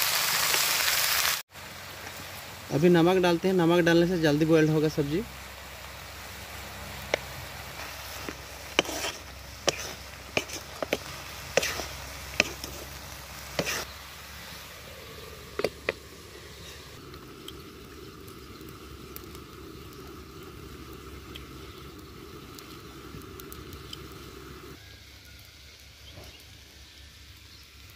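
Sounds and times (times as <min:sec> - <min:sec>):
vegetables frying: 0:00.0 - 0:27.9.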